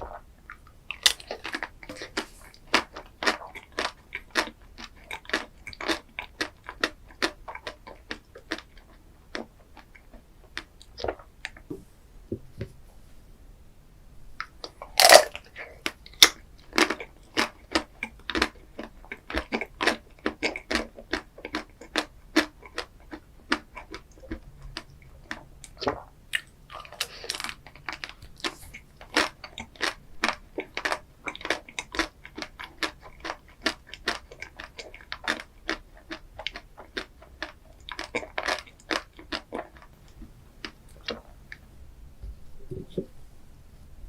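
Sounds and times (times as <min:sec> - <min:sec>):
crunchy bites and chewing: 0:00.9 - 0:11.3, 0:14.6 - 0:40.0.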